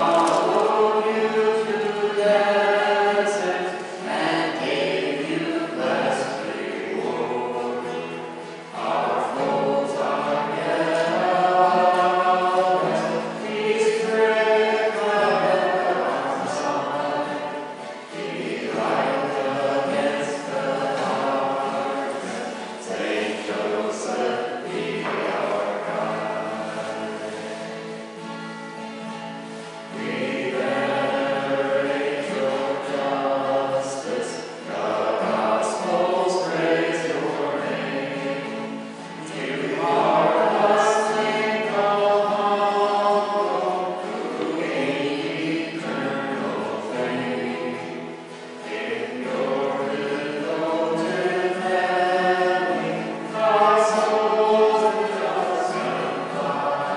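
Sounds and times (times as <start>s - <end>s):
choir singing a hymn: 0.0s - 56.9s.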